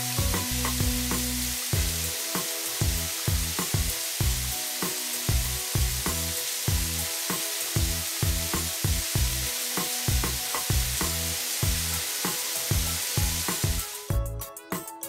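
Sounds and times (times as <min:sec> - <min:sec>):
steady hiss: 0:00.0 - 0:14.2
music with bass beat: 0:00.0 - 0:15.0.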